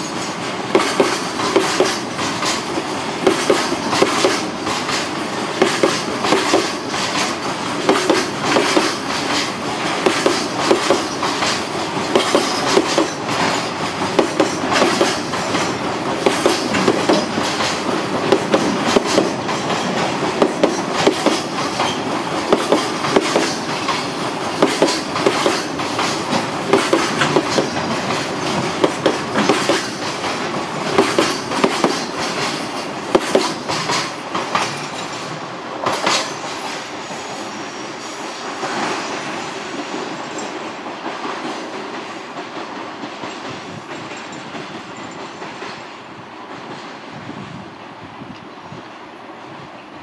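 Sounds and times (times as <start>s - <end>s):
train wheels clicking over rail joints: 0.0s - 47.5s
freight train rolling past: 0.0s - 50.0s.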